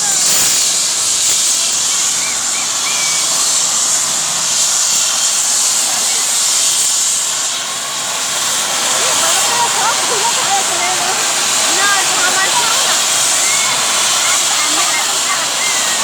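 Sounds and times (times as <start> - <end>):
helicopter turbine and rotor wash: 0.0 - 16.0.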